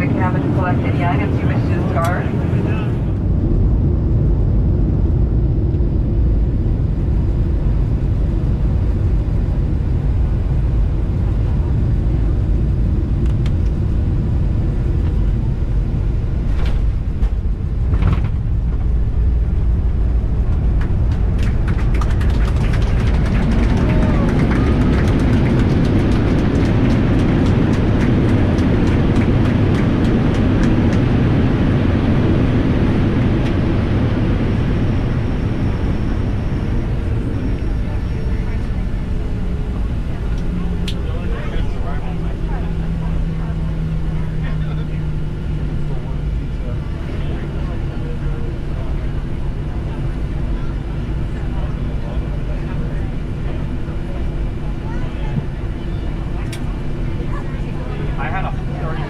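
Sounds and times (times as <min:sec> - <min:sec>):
jet cabin low drone: 0:00.0 - 0:59.0
rushing roar with rattling: 0:00.0 - 0:59.0.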